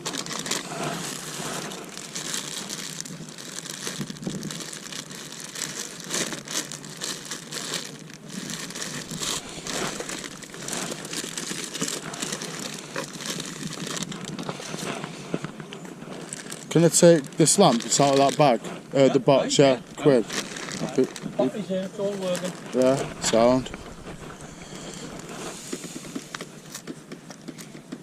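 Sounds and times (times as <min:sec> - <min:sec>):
rustling and crinkling bags: 0:00.0 - 0:28.0.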